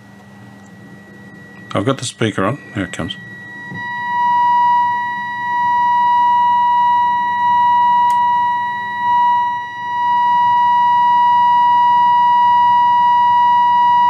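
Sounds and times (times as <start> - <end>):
test tone through radio speaker: 0.8 - 14.0.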